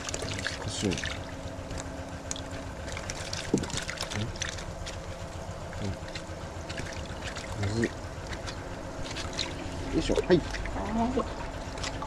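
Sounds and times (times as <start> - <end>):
flowing water rushing: 0.0 - 12.0
low hum: 0.0 - 12.0.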